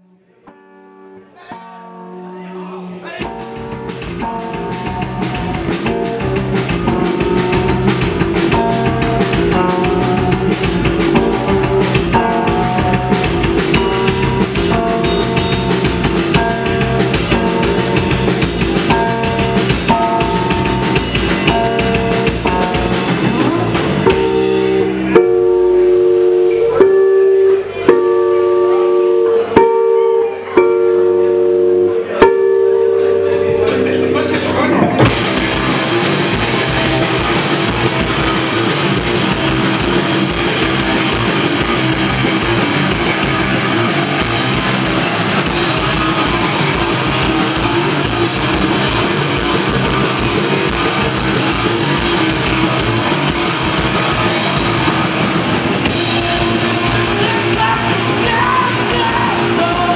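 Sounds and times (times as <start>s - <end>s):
drum kit: 3.1s - 59.9s
electric guitar: 3.2s - 59.9s.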